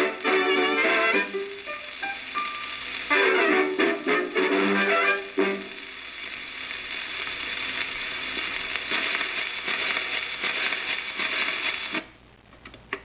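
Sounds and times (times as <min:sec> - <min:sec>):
record surface hiss and crackle: 0:00.0 - 0:13.0.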